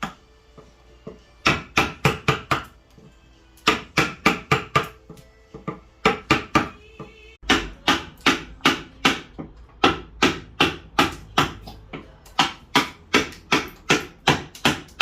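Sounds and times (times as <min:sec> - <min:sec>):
mallet tapping chisel into wood: 0:01.0 - 0:02.7, 0:03.6 - 0:15.0.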